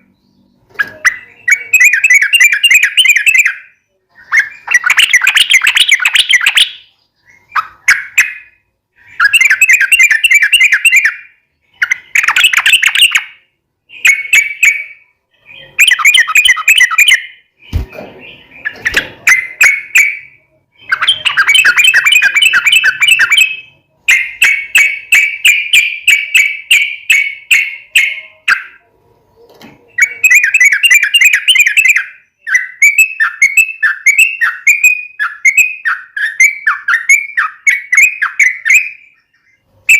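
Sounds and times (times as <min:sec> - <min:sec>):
bulbul chattering song: 0:00.0 - 0:29.0, 0:29.8 - 0:39.9.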